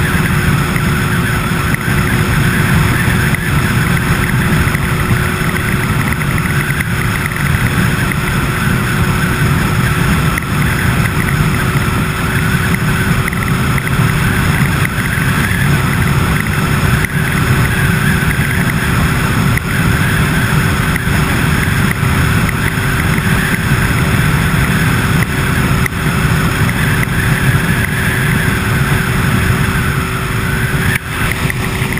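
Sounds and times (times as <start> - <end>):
constant whine: 0.0 - 31.9
vehicle engine rumble: 0.0 - 31.9.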